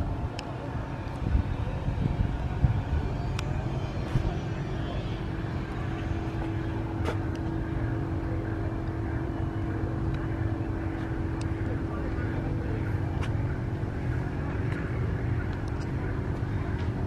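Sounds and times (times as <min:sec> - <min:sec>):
low rumble: 0:00.0 - 0:17.0
steady hum: 0:00.0 - 0:17.0.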